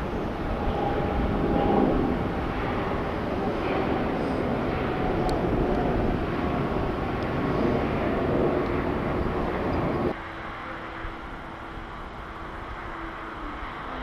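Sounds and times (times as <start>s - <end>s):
jet aircraft roar: 0.0s - 14.0s.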